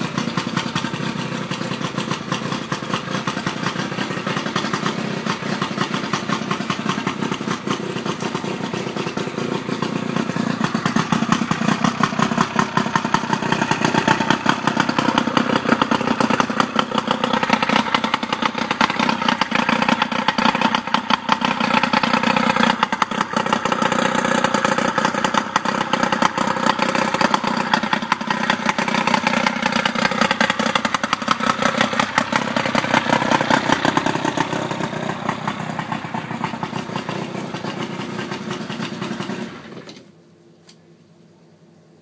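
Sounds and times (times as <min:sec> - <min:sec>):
outboard motor running: 0:00.0 - 0:40.1.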